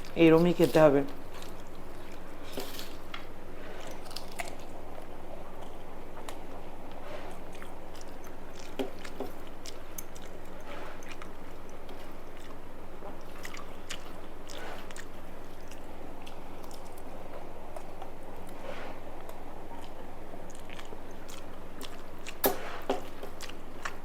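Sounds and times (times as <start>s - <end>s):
close chewing and crunching: 0.0s - 24.0s
steady low hum: 0.0s - 24.0s.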